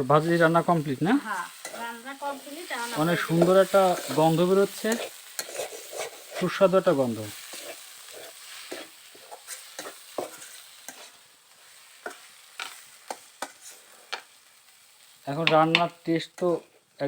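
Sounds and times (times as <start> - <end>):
food sizzling in a pan: 0.0 - 17.0
spoon stirring and scraping pan: 0.2 - 17.0.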